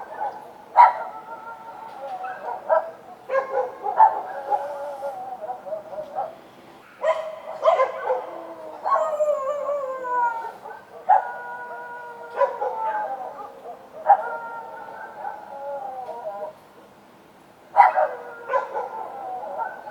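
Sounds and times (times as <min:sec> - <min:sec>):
dogs barking and howling: 0:00.0 - 0:16.6, 0:17.7 - 0:19.9.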